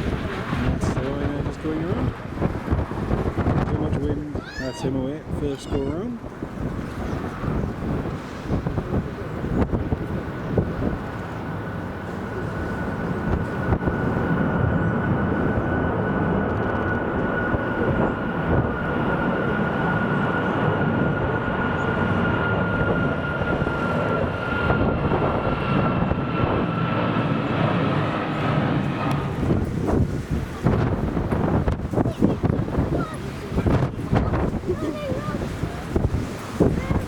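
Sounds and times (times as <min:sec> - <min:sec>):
jet engines at high thrust: 0:00.0 - 0:37.0
wind buffeting microphone: 0:00.0 - 0:37.0.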